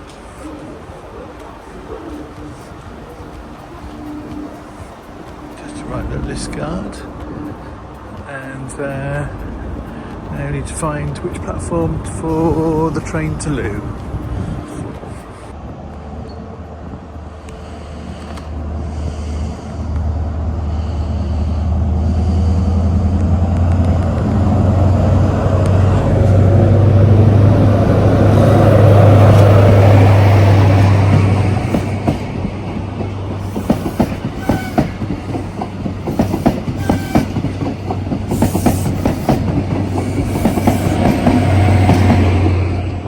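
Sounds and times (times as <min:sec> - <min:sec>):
diesel train engine hum: 0:00.0 - 0:43.0
train wheels clacking on rails: 0:00.0 - 0:43.0.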